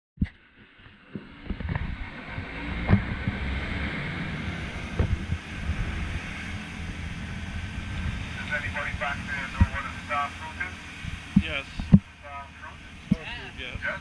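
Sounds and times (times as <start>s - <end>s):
vehicle rumbling: 0.2s - 14.0s
wind buffeting microphone: 1.0s - 10.2s, 10.8s - 14.0s.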